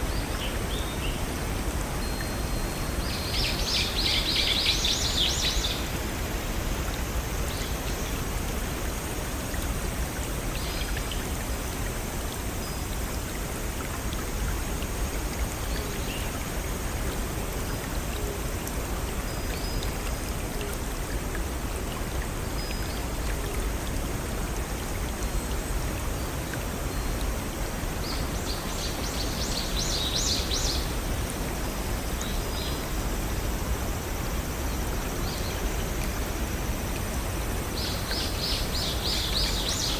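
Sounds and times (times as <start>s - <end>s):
brook and waterfall rushing: 0.0s - 39.9s.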